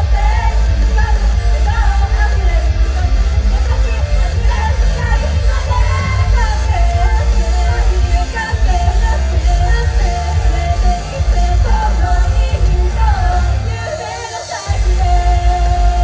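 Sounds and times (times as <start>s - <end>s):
heavy bass: 0.0s - 16.0s
live band music: 0.0s - 16.0s
person singing: 0.0s - 16.0s.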